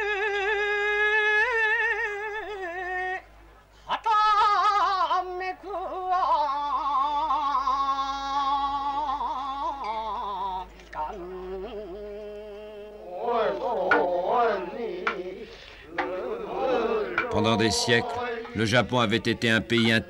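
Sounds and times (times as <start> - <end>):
man chanting: 3.9 - 20.0.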